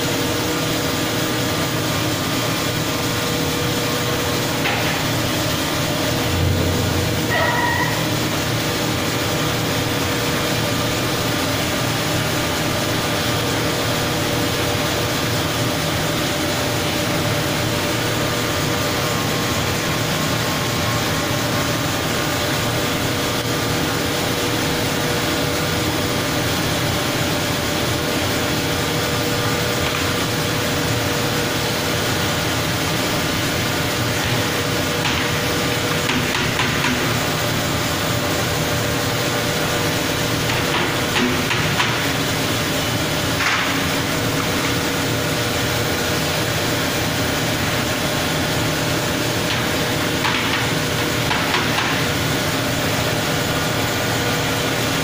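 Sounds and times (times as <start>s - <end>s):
machinery running with hum: 0.0s - 55.0s.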